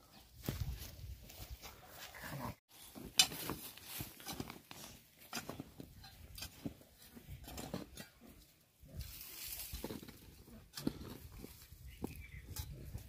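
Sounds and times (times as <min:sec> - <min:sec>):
hoe scraping dry soil: 0:02.2 - 0:13.0.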